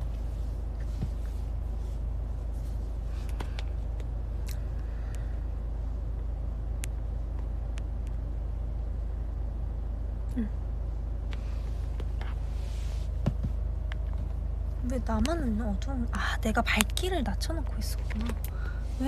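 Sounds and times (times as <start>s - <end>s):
low rumble inside car: 0.0s - 19.0s.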